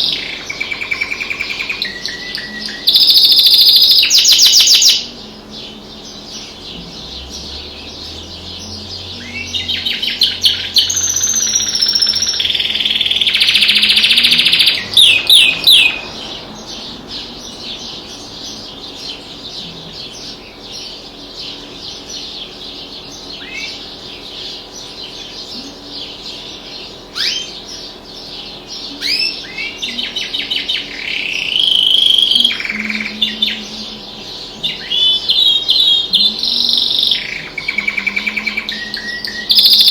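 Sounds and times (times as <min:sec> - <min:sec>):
canary trilling: 0:00.0 - 0:39.9.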